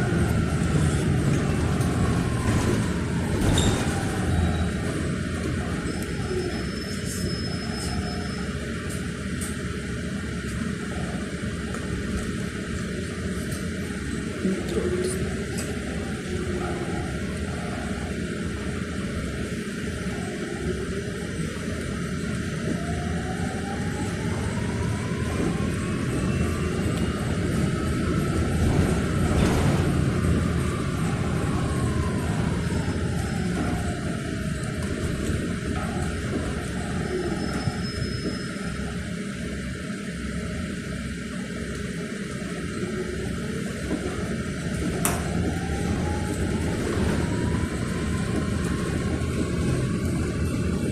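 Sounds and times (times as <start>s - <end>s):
tyres rumbling on road: 0.0s - 50.9s.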